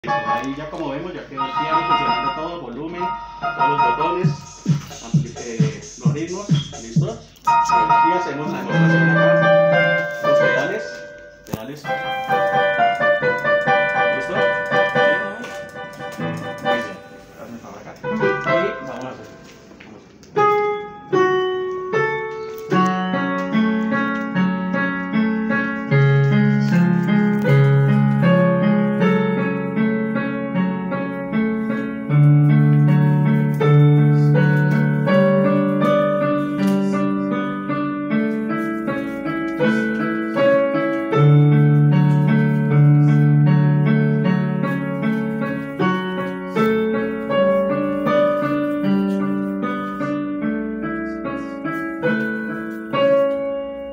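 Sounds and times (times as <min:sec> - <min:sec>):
electronic keyboard piano music: 0:00.0 - 0:53.9.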